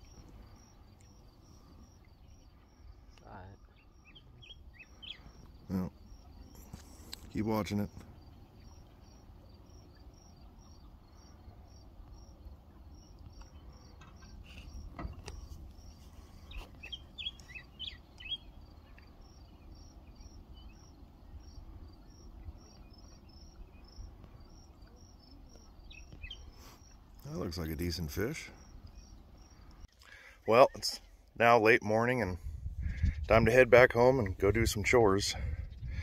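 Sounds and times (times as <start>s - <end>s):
crickets chirping: 0.0s - 30.6s
bird calls: 0.0s - 31.2s.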